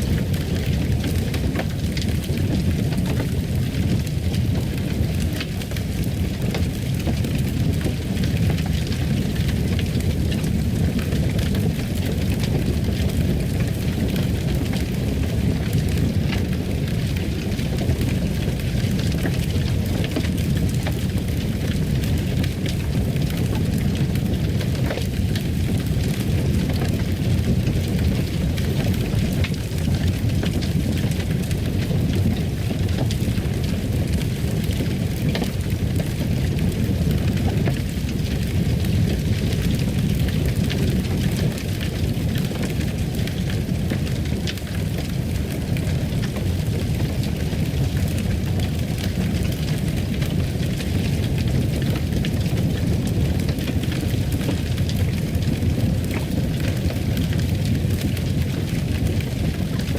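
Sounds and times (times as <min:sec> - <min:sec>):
fire crackling in a fireplace: 0:00.0 - 0:59.9.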